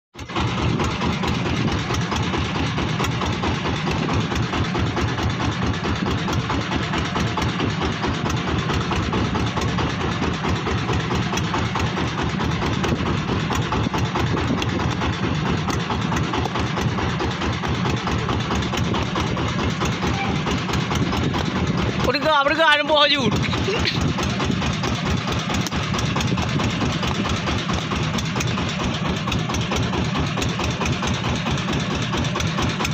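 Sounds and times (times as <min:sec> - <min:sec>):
boat engine running: 0:00.1 - 0:32.9.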